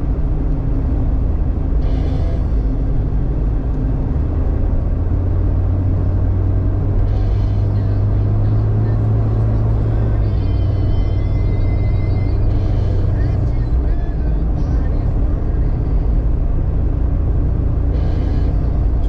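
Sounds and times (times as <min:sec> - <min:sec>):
vehicle engine and drivetrain running: 0:00.0 - 0:19.0.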